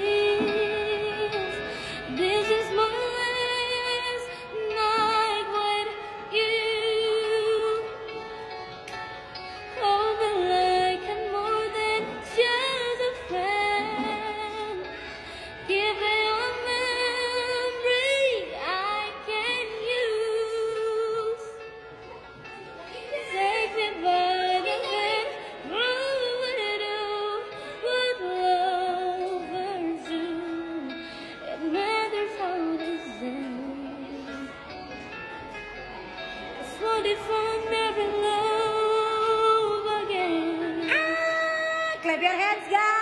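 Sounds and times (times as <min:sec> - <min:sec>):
backing music: 0:00.0 - 0:43.0.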